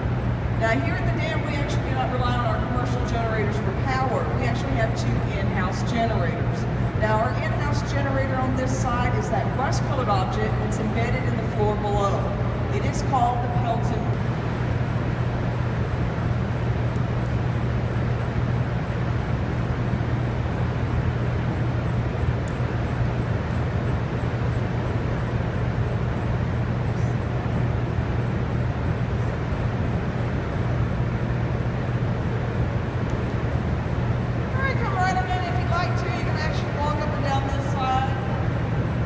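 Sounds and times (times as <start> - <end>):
hydroelectric generators humming: 0.0 - 39.0.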